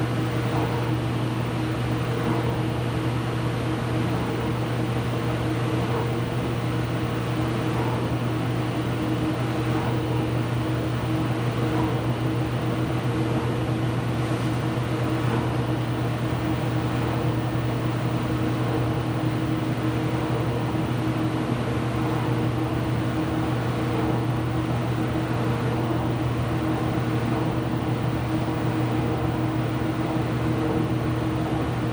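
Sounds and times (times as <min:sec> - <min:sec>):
washing machine humming: 0:00.0 - 0:31.9.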